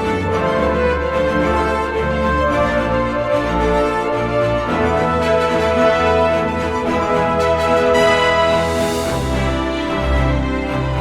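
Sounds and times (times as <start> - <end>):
soundtrack music with layered chords: 0.0 - 11.0.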